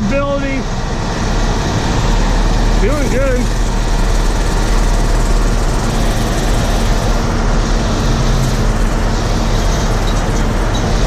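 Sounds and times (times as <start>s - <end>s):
harvest machinery engine drone: 0.0s - 11.0s.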